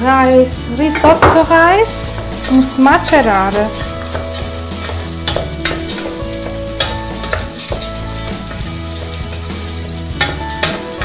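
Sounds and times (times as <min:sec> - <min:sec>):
rice sizzling in hot oil: 0:00.8 - 0:11.0
wooden spoon scraping and stirring: 0:00.8 - 0:11.0.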